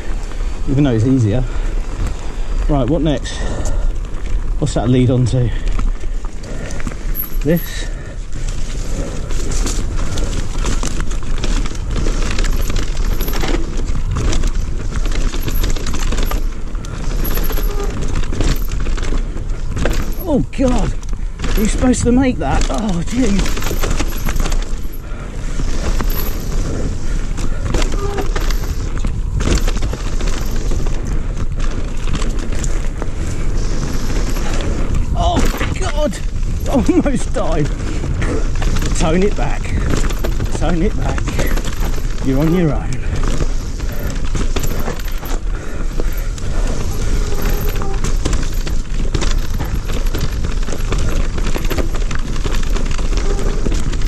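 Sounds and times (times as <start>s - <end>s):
bike knocks and rattles: 0.0s - 54.0s
tyre noise: 0.0s - 54.0s
wind buffeting microphone: 0.0s - 54.0s.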